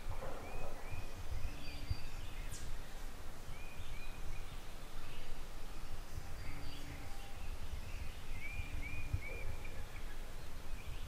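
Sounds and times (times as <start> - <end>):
bird chirping: 0.0 - 11.0
wind rumble on microphone: 0.0 - 11.0.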